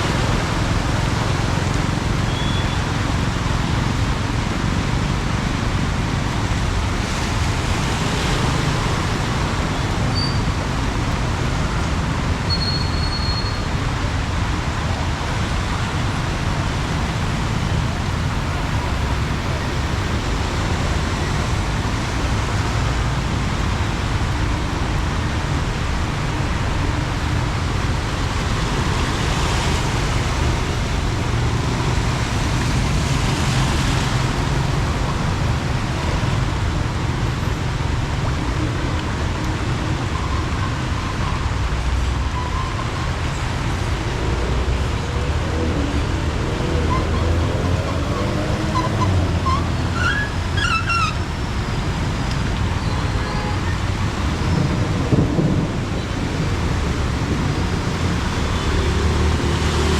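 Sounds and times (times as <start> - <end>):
heavy rain falling: 0.0 - 59.9
road traffic rumble: 0.0 - 59.9
vehicles passing: 0.0 - 59.9.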